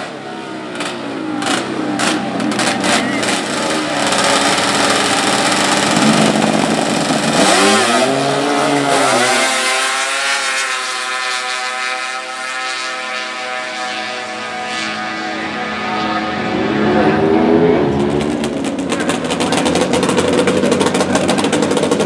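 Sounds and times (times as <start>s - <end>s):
snowmobile engines at full throttle: 0.0s - 22.0s.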